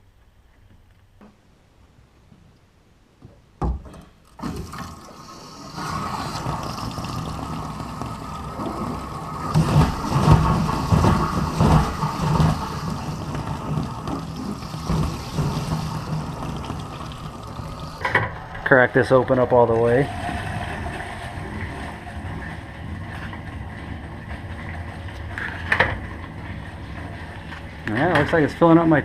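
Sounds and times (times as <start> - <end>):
water rushing into tank: 4.4 - 29.0.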